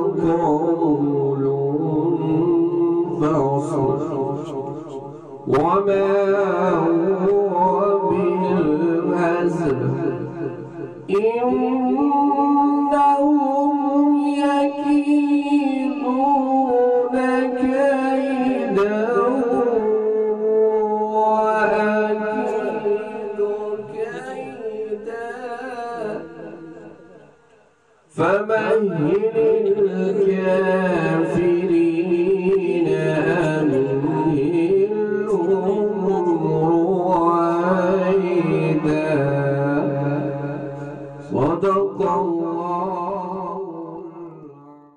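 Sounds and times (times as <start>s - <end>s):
man reciting melodically: 0.0s - 44.9s.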